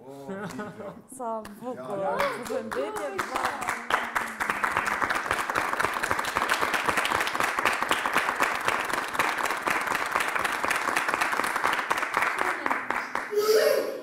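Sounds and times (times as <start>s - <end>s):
group applauding: 1.4s - 14.0s.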